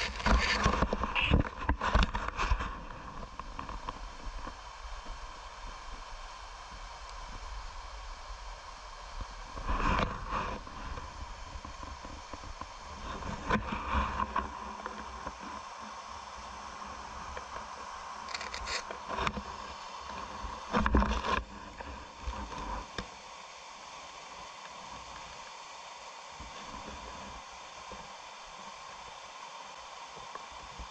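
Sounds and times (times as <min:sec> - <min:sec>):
stream water running: 0:00.0 - 0:30.9.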